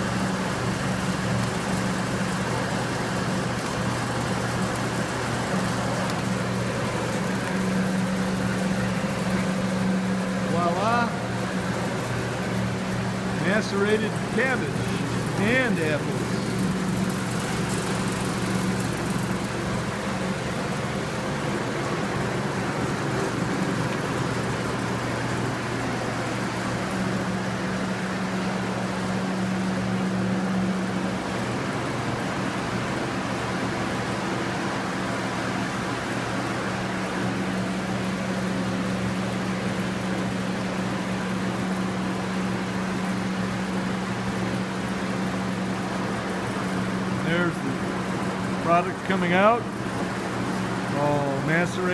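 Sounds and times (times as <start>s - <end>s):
garbage disposal running: 0.0s - 51.9s.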